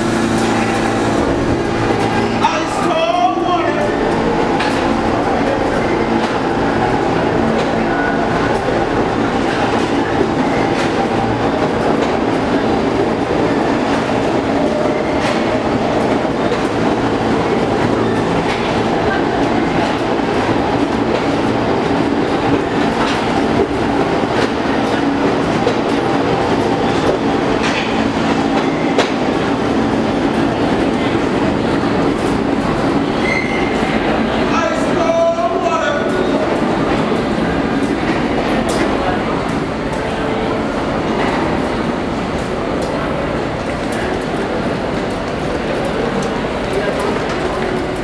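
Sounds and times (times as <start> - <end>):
subway train rumbling: 0.0 - 48.0.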